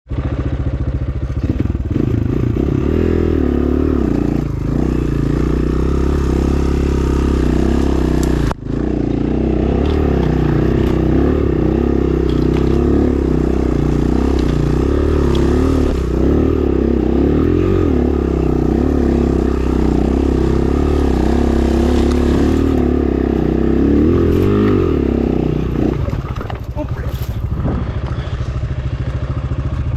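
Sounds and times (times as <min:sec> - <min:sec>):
dirt bike engine revving: 0:00.1 - 0:29.9.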